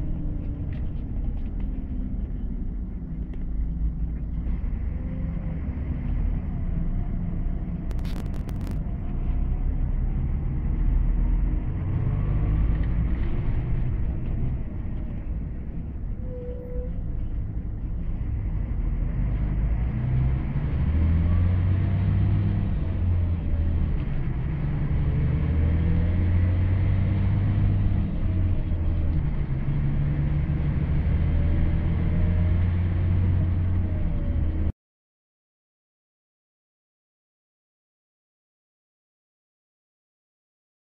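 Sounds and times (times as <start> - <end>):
bus diesel engine rumbling: 0.0 - 34.7.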